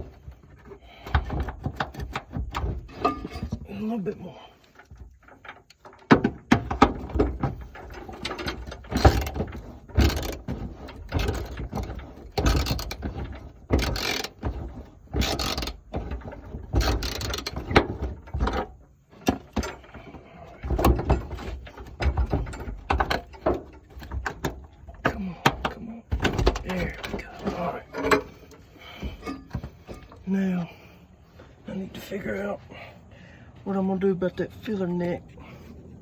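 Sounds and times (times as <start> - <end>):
metal tools clanking and scraping: 0.0 - 32.9.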